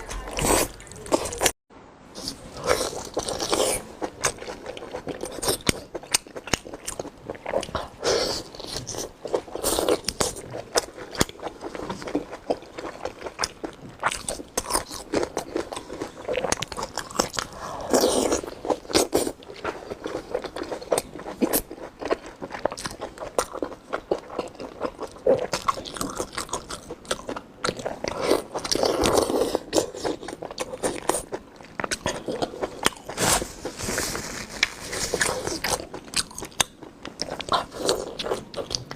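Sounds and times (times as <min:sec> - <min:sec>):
person chewing food: 0:02.2 - 0:38.9.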